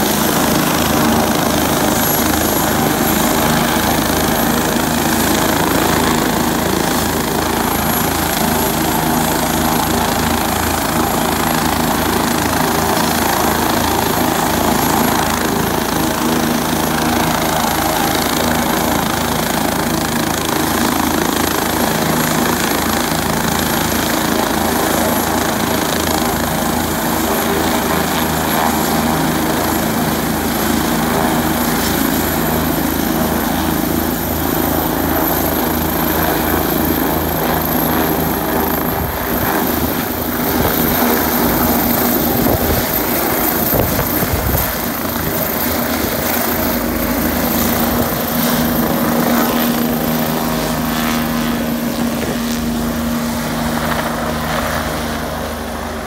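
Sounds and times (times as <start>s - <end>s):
helicopter rotor beat: 0.0s - 56.0s
high turbine whine: 0.0s - 56.0s.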